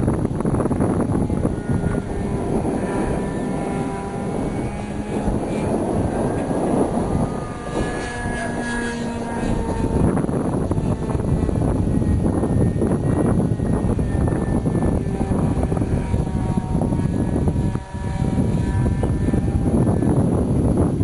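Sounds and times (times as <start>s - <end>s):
model airplane engine drone: 0.0s - 21.0s.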